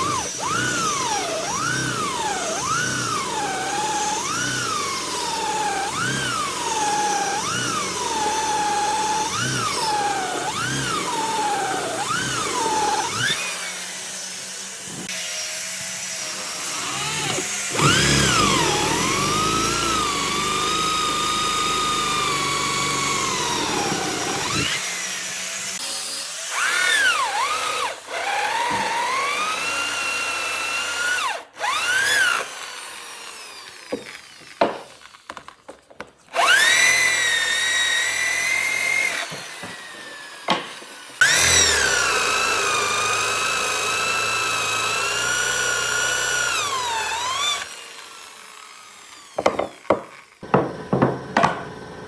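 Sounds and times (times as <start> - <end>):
power tool motor whining: 0.0 - 52.0.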